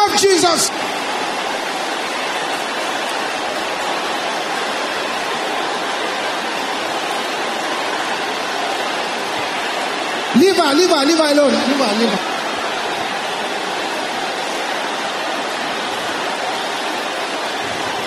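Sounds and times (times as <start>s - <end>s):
congregation praying aloud: 0.0s - 18.0s.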